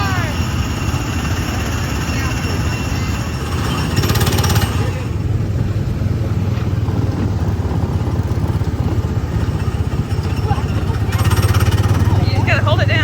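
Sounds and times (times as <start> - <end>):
small gasoline engines pulsing: 0.0 - 13.0.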